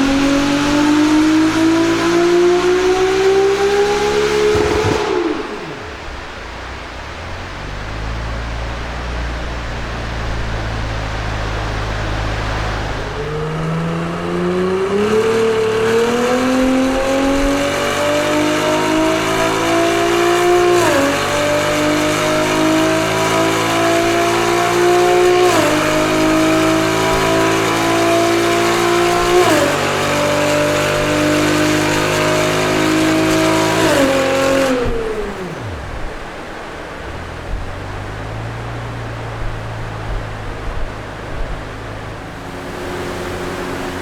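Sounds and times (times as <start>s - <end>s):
car engine revving with upshifts: 0.0s - 44.0s.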